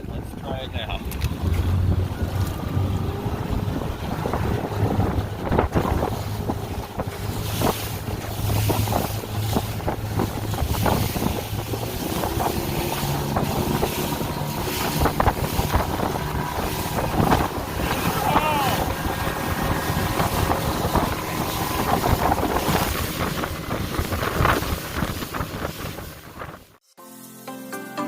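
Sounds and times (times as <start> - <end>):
outboard motor humming: 0.0 - 26.8
waves slapping hull: 0.0 - 26.8
wind buffeting microphone: 0.0 - 26.8.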